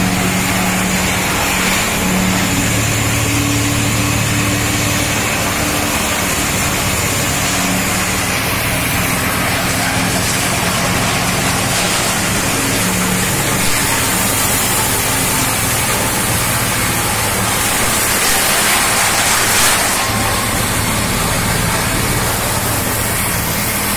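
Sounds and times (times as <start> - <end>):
motors humming: 0.0 - 23.9
wood crusher grinding: 0.0 - 23.9.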